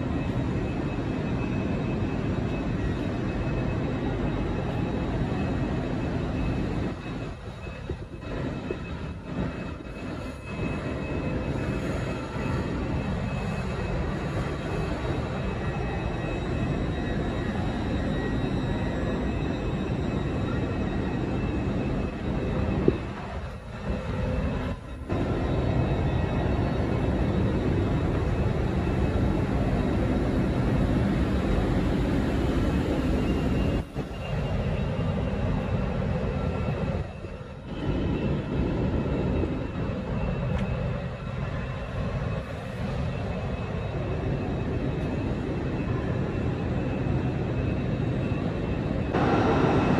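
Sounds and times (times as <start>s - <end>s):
electric train humming: 0.0s - 49.9s.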